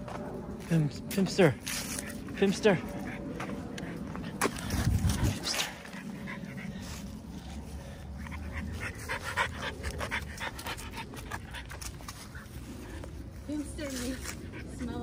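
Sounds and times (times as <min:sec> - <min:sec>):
low rumble: 0:00.0 - 0:15.0
puppy panting: 0:01.5 - 0:15.0.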